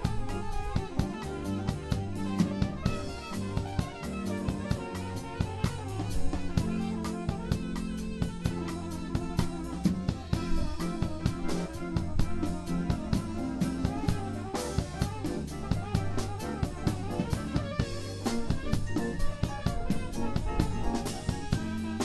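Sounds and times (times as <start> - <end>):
cymbal and drum strokes: 0.0 - 22.0
live band playing bossa nova: 0.0 - 22.0.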